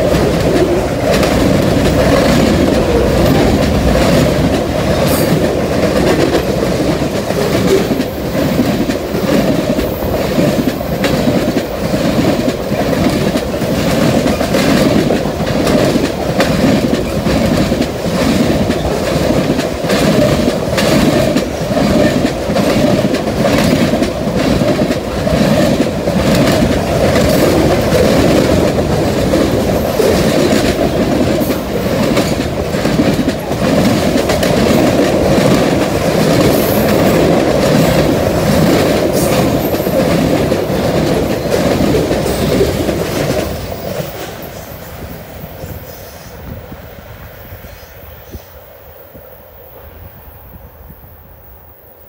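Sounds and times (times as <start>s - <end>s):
rhythmic clickety-clack: 0.0s - 44.8s
freight train wheels rumbling on rail: 0.0s - 52.0s.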